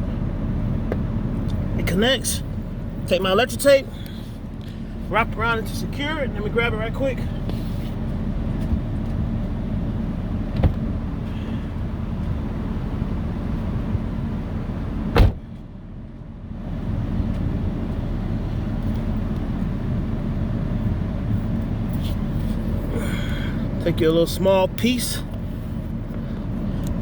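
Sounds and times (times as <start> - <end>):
low vehicle hum: 0.0 - 27.0.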